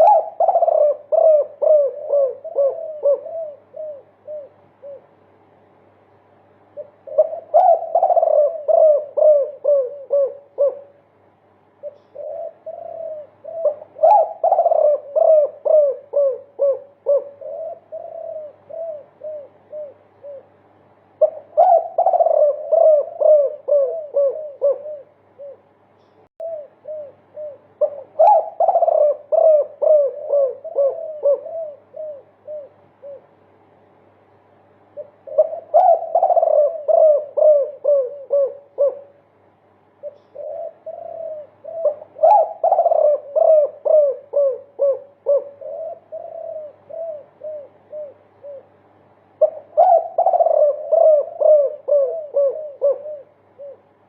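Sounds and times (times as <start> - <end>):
dove cooing: 0.0 - 5.6, 6.6 - 11.1, 11.8 - 33.9, 34.8 - 54.0.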